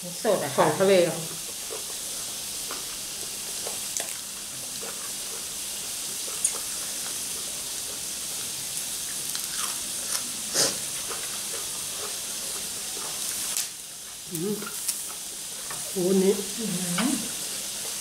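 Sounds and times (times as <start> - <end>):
squid sizzling on grill: 0.0 - 18.0.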